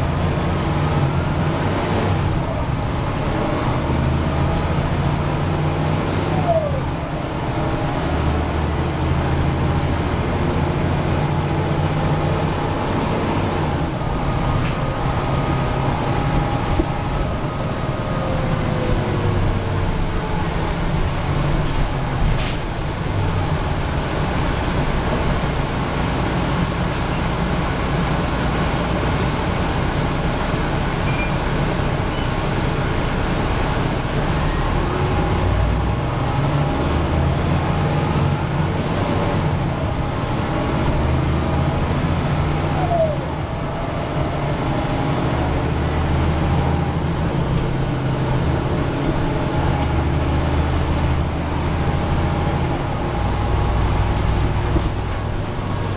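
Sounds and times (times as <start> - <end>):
bus diesel engine drone: 0.0 - 55.9.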